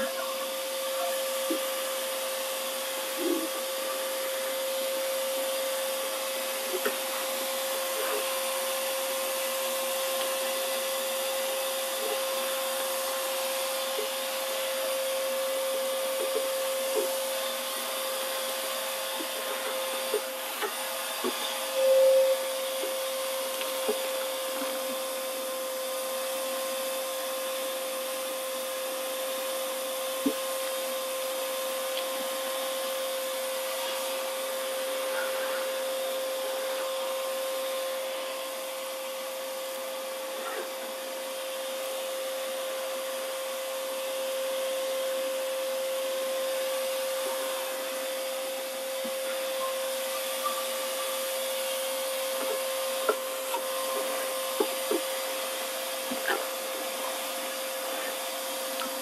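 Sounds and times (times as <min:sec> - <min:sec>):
shop vacuum whining: 0:00.0 - 0:59.0.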